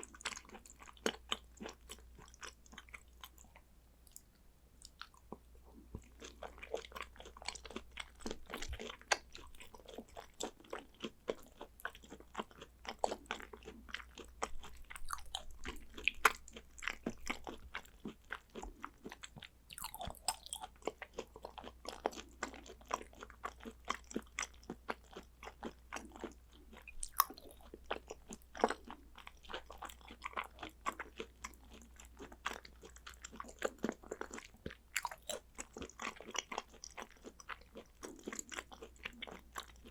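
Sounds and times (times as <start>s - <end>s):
close chewing with wet clicks: 0.0s - 39.9s.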